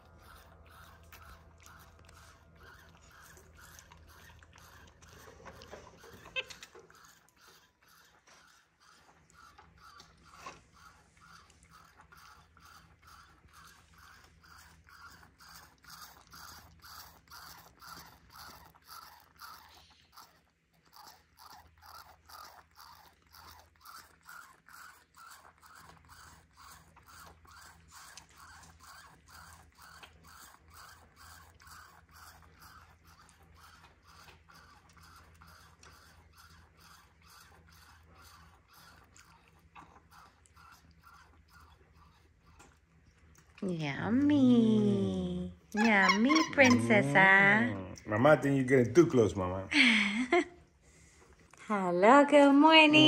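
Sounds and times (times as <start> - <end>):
monkey sucking a bottle: 0.0 - 51.7.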